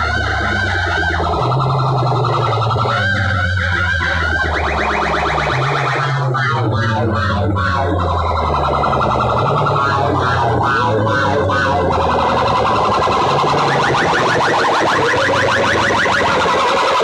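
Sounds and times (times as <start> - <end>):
deep steady bass tone: 0.0 - 17.0
distorted electronic music: 0.0 - 17.0
siren-like sweeps and pulses: 0.0 - 17.0.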